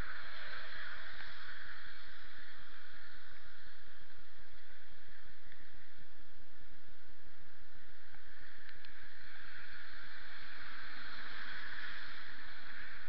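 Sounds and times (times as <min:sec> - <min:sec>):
faint ticks: 0:00.0 - 0:13.0
rain hiss on wet street: 0:00.0 - 0:13.0.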